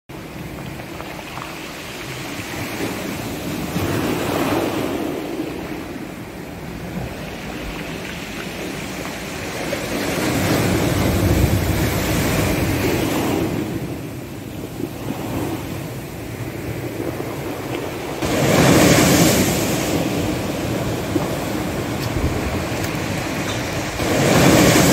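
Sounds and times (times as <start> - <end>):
sea waves breaking: 0.1 - 24.9
wind: 0.1 - 24.9.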